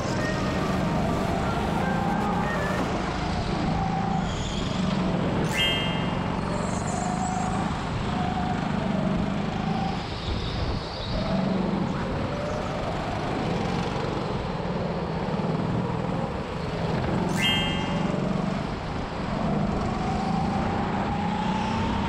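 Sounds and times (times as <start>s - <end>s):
go-kart motor hum: 0.0s - 22.0s.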